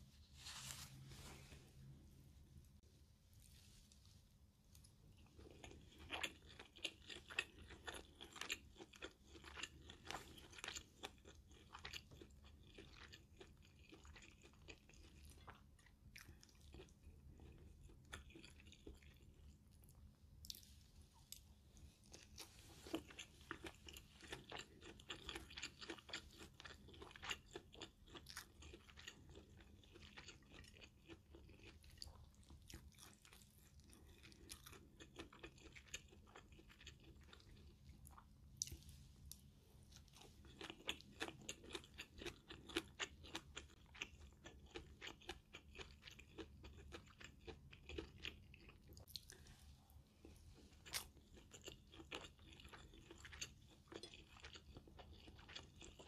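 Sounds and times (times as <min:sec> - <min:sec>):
chewing food: 0:03.5 - 0:56.0.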